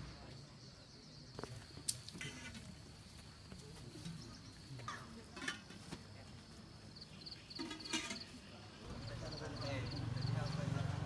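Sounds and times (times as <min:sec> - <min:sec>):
distant voices: 0:00.0 - 0:11.0.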